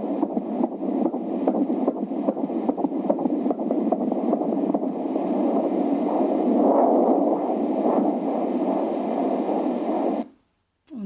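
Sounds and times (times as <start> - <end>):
fetal heartbeat whooshing pulse: 0.0 - 10.4
static hiss: 0.0 - 10.8.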